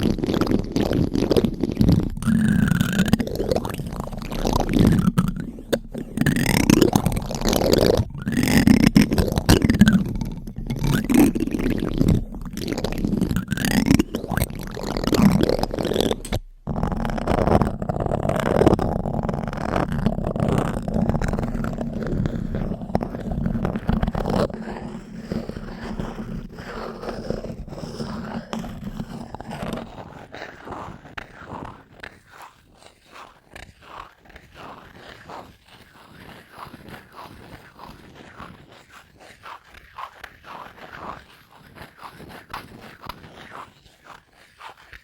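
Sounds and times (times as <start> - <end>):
spoon scraping a microphone: 0.0 - 45.0.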